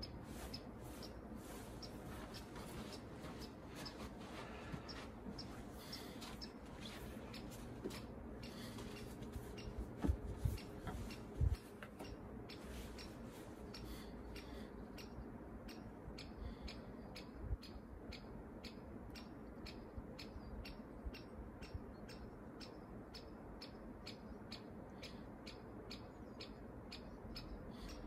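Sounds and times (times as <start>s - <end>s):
regular ticking clicks: 0.0s - 28.0s.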